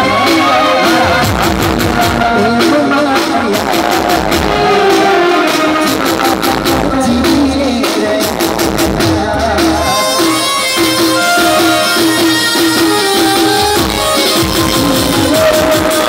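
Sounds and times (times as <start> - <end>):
fast drum beat: 0.0 - 16.0.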